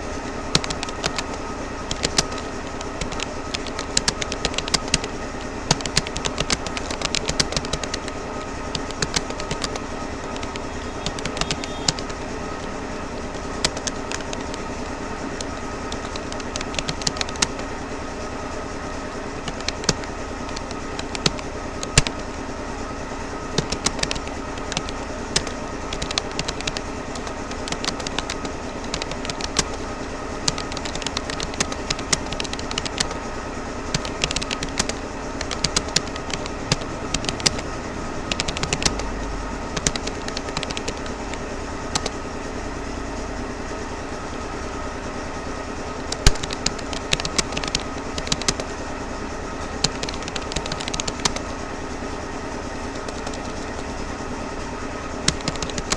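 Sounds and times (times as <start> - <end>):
background hum: 0.0 - 55.9
keyboard typing clicks: 0.4 - 17.9, 19.4 - 22.4, 23.5 - 42.2, 46.0 - 48.9, 49.6 - 51.6, 52.8 - 54.0, 55.2 - 55.9.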